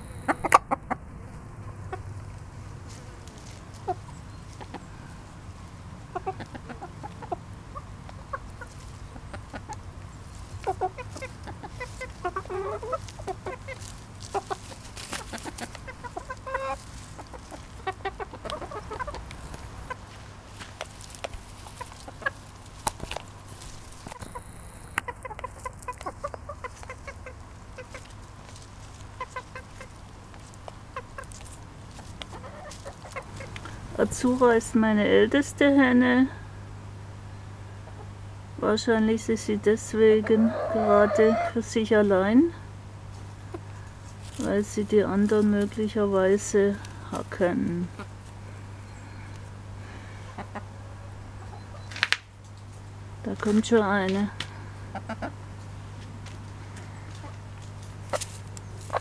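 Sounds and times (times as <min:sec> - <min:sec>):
hens clucking: 0:00.0 - 0:36.7, 0:37.3 - 0:52.0, 0:52.7 - 0:59.0.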